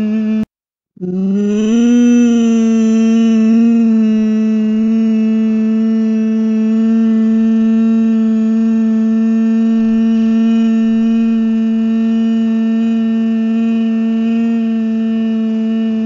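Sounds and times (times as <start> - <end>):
loud steady low drone: 1.0 - 16.0.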